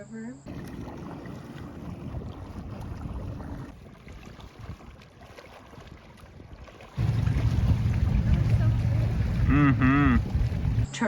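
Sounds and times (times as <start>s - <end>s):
river water flowing: 0.5s - 11.0s
wind buffeting microphone: 0.8s - 5.0s, 5.8s - 10.9s.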